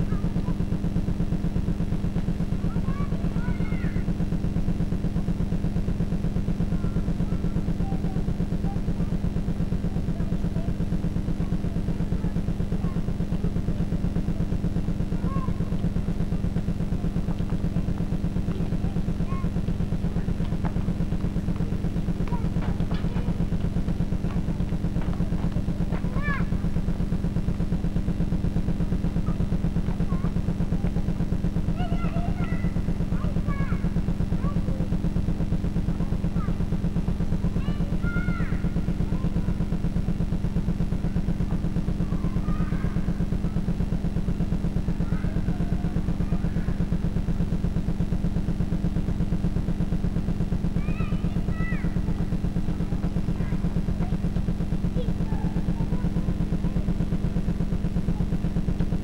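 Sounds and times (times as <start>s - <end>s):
faint children's voices: 0.0s - 59.0s
loud low pulsing buzz: 0.0s - 59.0s.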